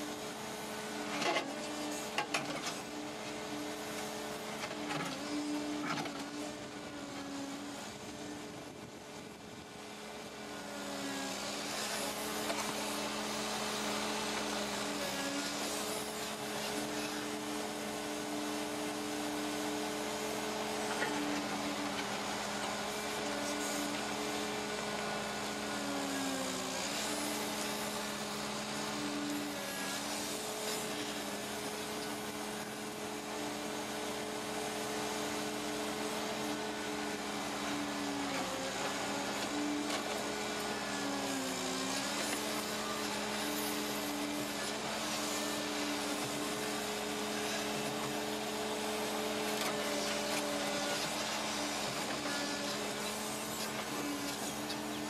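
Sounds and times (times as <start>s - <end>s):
excavator diesel engine: 0.0s - 55.0s
hydraulic hum and whine: 0.0s - 55.0s.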